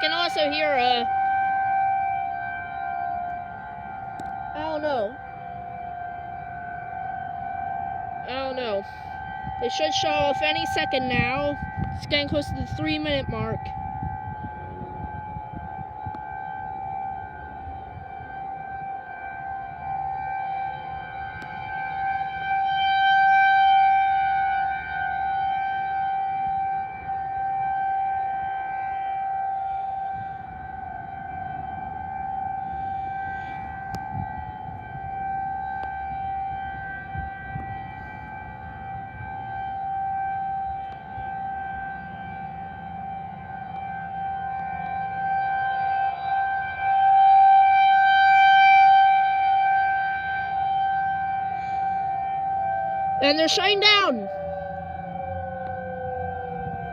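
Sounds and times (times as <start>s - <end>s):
rotating warning siren: 0.0s - 56.9s.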